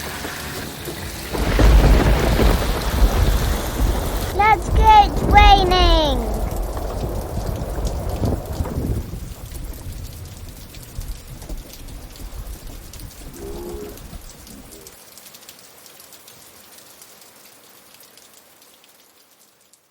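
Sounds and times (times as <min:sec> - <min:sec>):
rain falling: 0:00.0 - 0:19.9.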